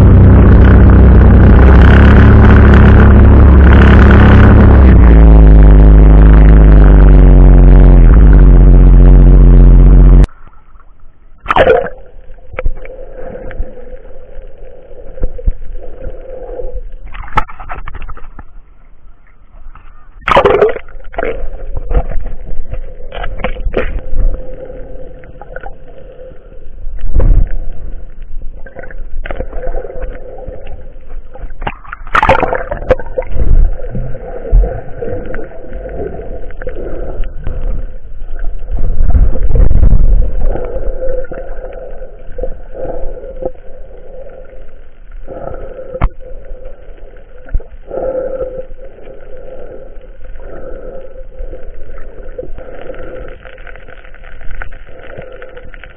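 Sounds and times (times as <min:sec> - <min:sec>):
muffled underwater water rushing: 0:00.0 - 0:55.9
underwater bubbles: 0:00.0 - 0:55.9.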